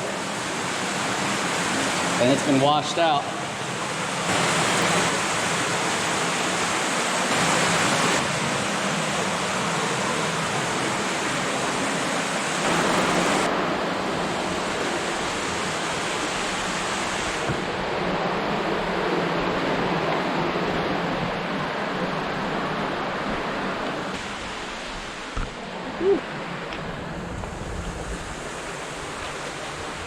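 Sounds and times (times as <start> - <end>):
water rushing through tunnel: 0.0 - 30.0.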